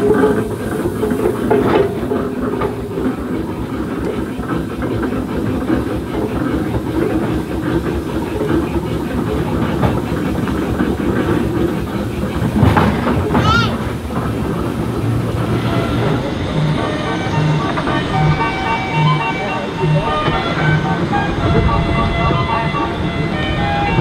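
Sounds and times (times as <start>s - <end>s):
steam engines clattering: 0.0s - 24.0s.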